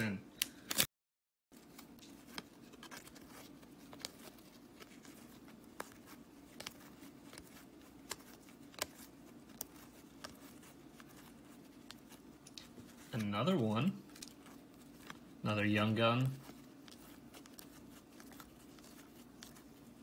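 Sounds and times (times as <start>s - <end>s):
cards flipping by hand: 1.6s - 15.4s, 16.3s - 20.0s
low steady hum: 1.6s - 20.0s.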